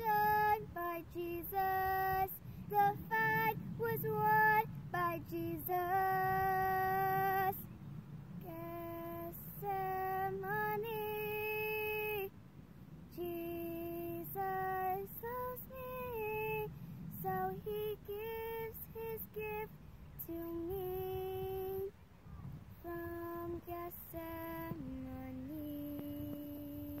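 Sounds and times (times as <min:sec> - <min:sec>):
girl singing slow melody: 0:00.0 - 0:27.0.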